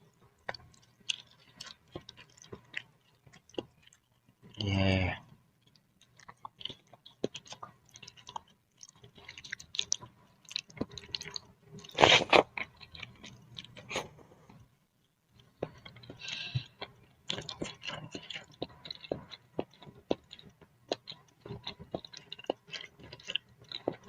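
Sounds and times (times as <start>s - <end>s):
person chewing noodles: 0.0s - 4.9s, 5.6s - 14.2s, 15.3s - 24.0s.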